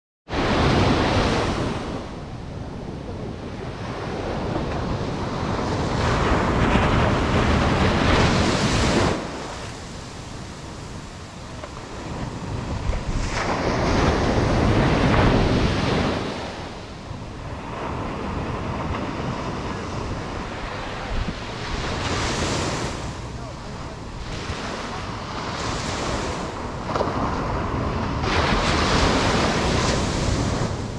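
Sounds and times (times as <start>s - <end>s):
ocean surf on a beach: 0.3s - 30.9s.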